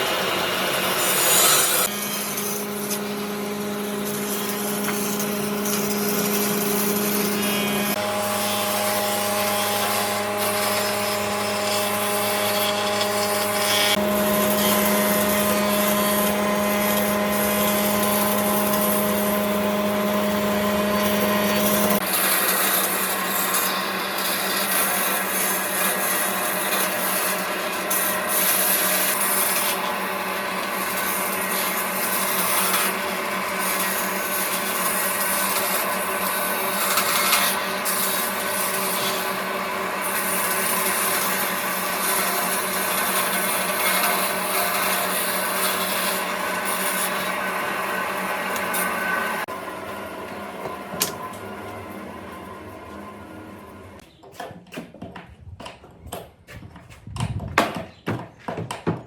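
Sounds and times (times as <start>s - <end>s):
power tool working wood: 0.0s - 54.0s.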